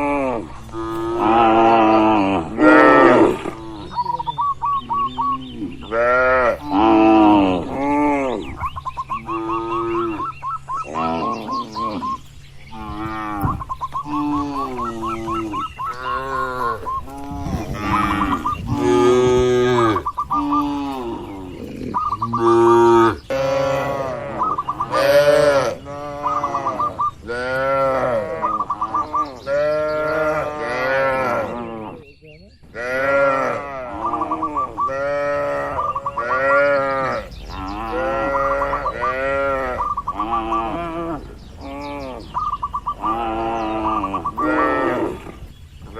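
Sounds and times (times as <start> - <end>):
cattle mooing: 0.0 - 4.2, 4.9 - 8.5, 9.2 - 10.3, 10.9 - 32.0, 32.8 - 45.5.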